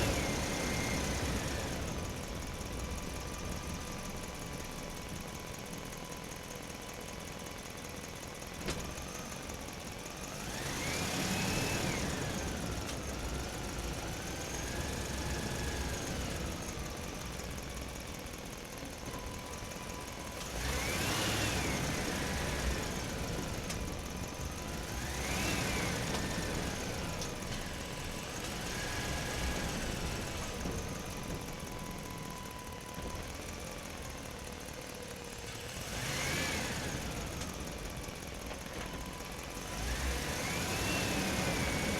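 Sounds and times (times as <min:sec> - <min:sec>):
truck engine rumbling and revving: 0:00.0 - 0:41.9.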